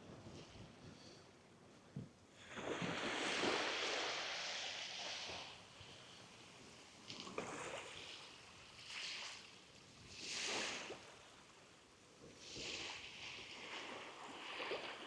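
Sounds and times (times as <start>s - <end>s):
small waves washing on shore: 2.3s - 15.0s.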